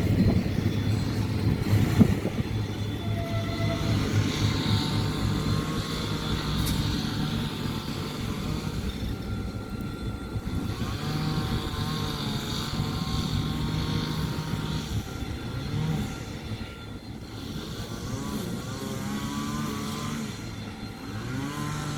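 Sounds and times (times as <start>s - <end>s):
diesel locomotive engines droning: 0.0s - 21.9s.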